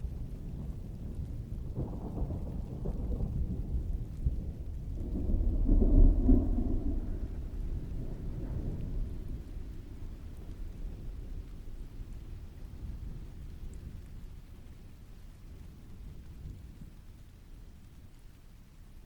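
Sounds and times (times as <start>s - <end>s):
thunder rumbling: 0.0s - 18.0s
rain falling: 0.0s - 19.0s.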